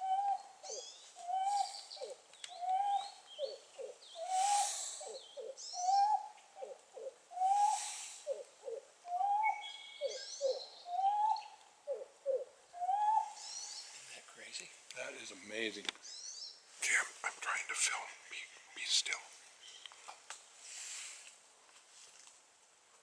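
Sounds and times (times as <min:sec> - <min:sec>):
faint songbird chirps: 0:00.0 - 0:14.2, 0:16.0 - 0:20.6.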